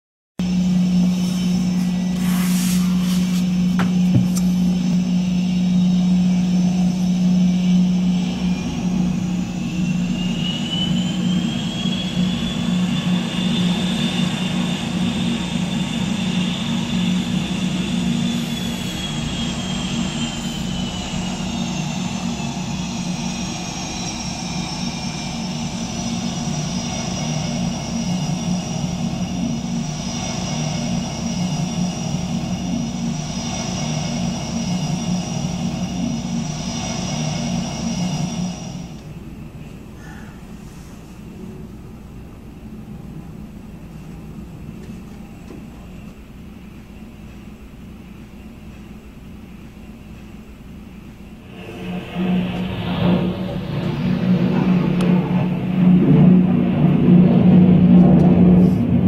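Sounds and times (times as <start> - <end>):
jet engine turbine whine: 0.4 - 59.0.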